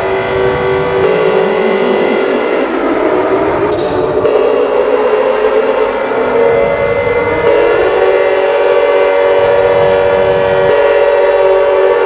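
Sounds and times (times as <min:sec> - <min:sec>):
emergency siren alarm: 0:00.0 - 0:12.0.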